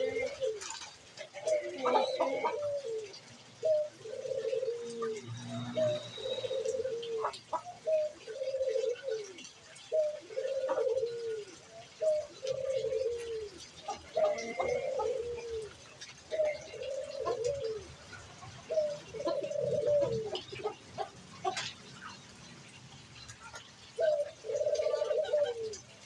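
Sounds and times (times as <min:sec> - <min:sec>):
pigeon cooing: 0:00.0 - 0:22.3, 0:23.4 - 0:26.0.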